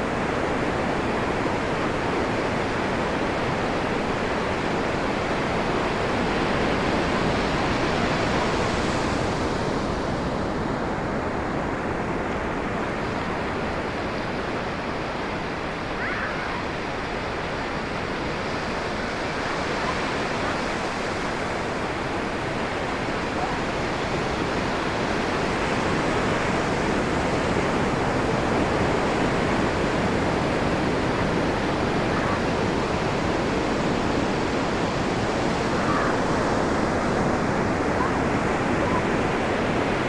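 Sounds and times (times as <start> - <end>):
waves breaking on beach: 0.0 - 40.0.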